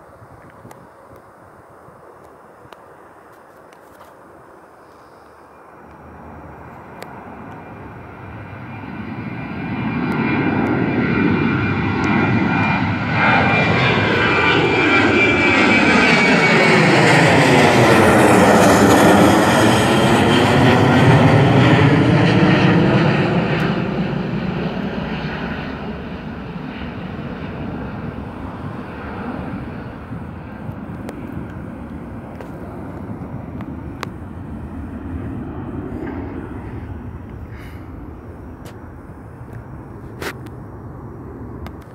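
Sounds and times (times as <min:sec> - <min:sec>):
jet airliner passing by: 0:00.0 - 0:41.9.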